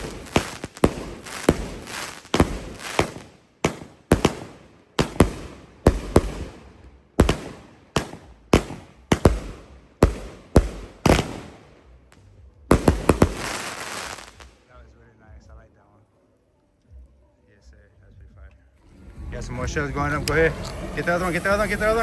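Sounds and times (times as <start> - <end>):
fireworks banging: 0.0 - 14.8, 18.8 - 22.0.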